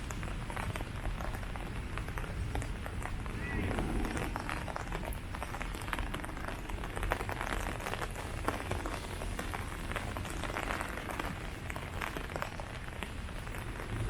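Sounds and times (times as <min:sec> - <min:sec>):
rain on leaves: 0:00.0 - 0:14.0.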